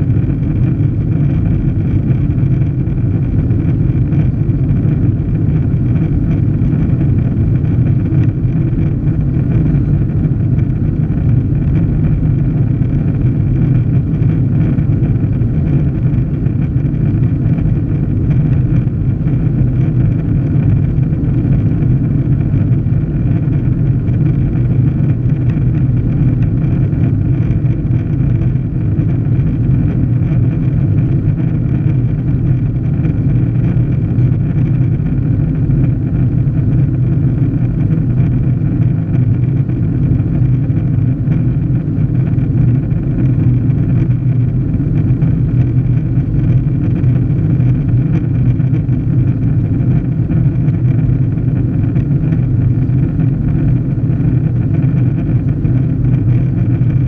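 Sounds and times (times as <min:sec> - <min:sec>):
faint high hum: 0:00.0 - 0:57.0
jet cabin engine rumble: 0:00.0 - 0:57.0.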